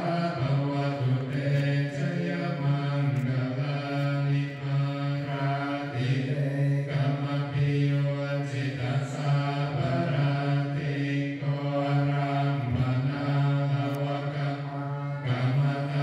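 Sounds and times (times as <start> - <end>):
voices chanting on one pitch: 0.0 - 16.0.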